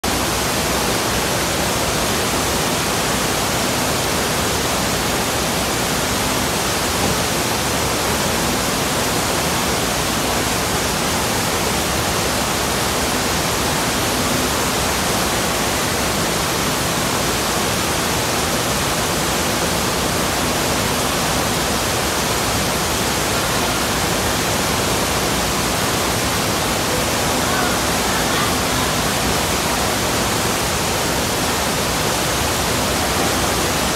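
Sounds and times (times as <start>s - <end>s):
churning water rushing: 0.0s - 33.9s.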